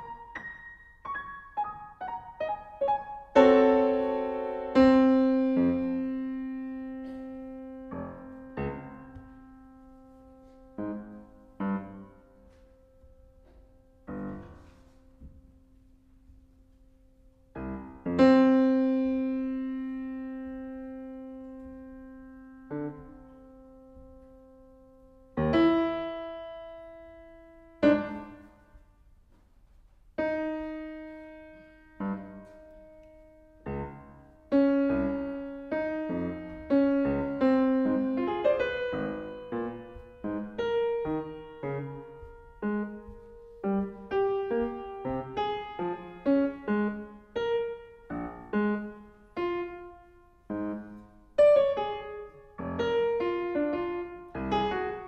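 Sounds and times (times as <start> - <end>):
solo piano chords: 0.0 - 29.3, 30.1 - 55.0.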